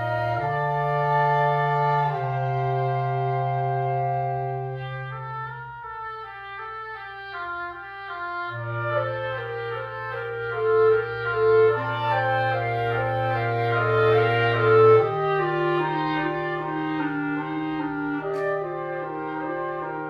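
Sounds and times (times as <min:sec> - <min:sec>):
clarinet melody: 0:00.0 - 0:20.0
woodwind ensemble chamber music: 0:00.0 - 0:20.0.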